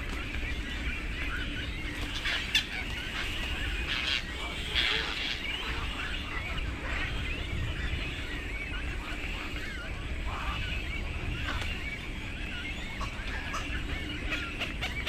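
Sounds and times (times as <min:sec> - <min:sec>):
birds chirping and clucking: 0:00.0 - 0:15.0
steady low rumble: 0:00.0 - 0:15.0.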